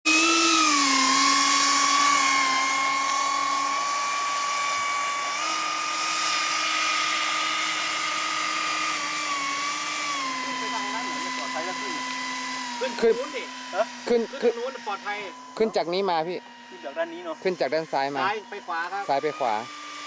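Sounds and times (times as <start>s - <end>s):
electric ducted fans whining: 0.1s - 20.0s.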